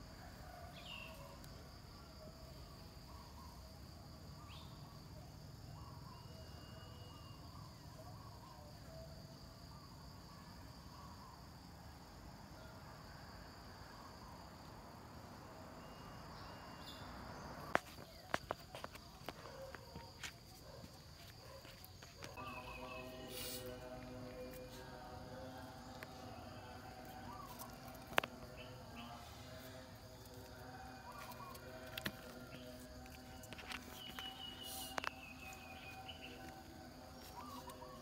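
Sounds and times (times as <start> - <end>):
faint insect chirps: 0.0 - 38.0
insects droning: 0.0 - 38.0.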